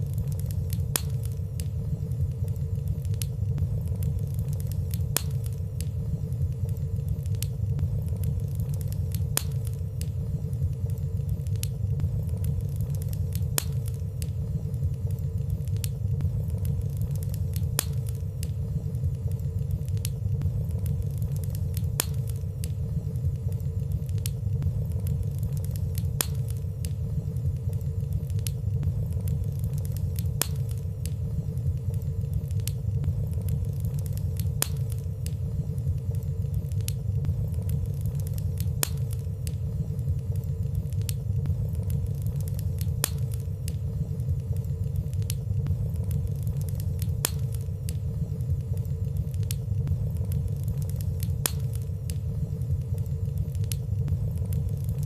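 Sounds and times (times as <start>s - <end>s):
fire crackling: 0.0s - 55.0s
wood fire burning: 0.0s - 55.0s.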